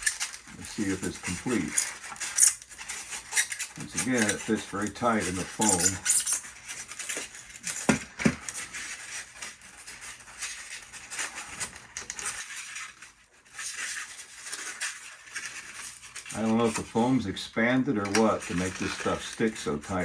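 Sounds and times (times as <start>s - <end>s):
foam packing rubbing and scraping: 0.0s - 20.0s.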